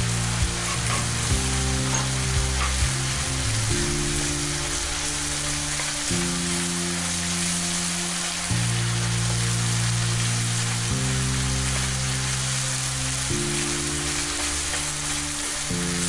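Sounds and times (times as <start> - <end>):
low held musical chords: 0.0 - 16.0
meat sizzling in a frying pan: 0.0 - 16.0.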